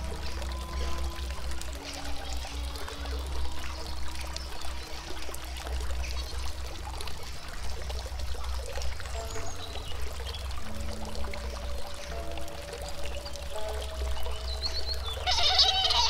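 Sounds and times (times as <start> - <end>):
faint held musical tones: 0.0 - 16.0
flowing water rushing: 0.0 - 16.0.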